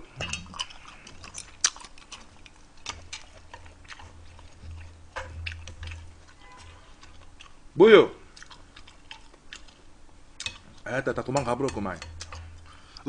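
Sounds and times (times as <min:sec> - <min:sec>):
close chewing with wet smacks: 0:00.0 - 0:13.0.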